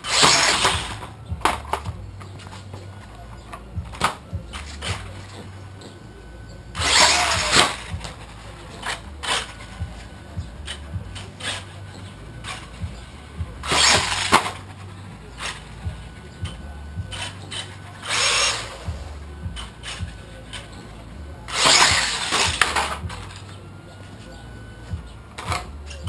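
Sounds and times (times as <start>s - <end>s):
toy truck motor whine: 0.0s - 26.0s.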